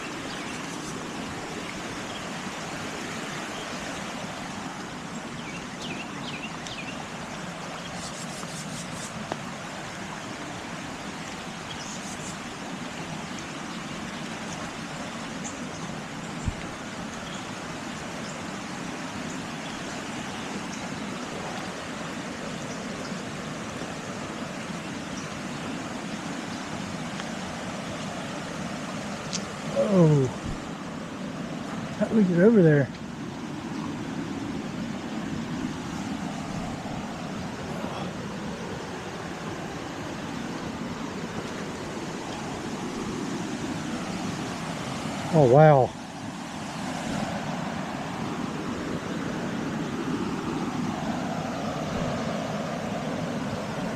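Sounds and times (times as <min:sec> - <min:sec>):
pouring rain: 0:00.0 - 0:53.9
running water: 0:00.0 - 0:53.9.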